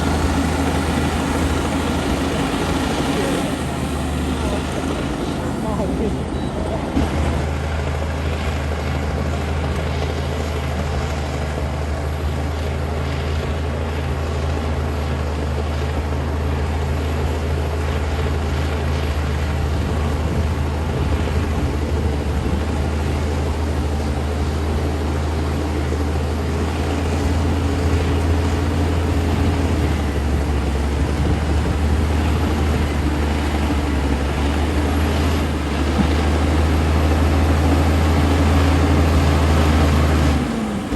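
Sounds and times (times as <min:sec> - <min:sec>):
bulldozer diesel engine hum: 0:00.0 - 0:40.9.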